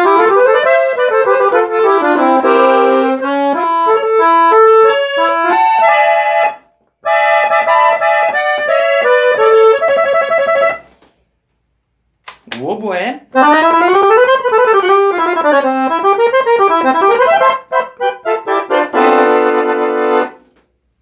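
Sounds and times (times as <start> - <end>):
accordion playing: 0.0 - 10.9, 13.3 - 20.6.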